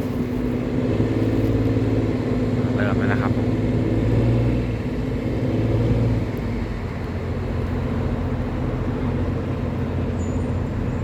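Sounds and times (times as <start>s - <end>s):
tugboat engine droning: 0.0s - 11.0s.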